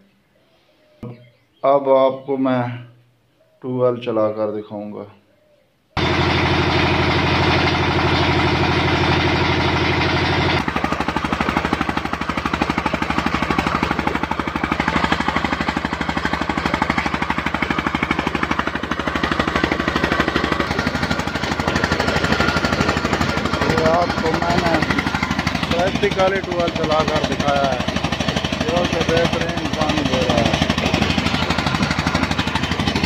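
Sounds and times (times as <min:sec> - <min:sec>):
diesel engine thumping: 0:06.0 - 0:33.0.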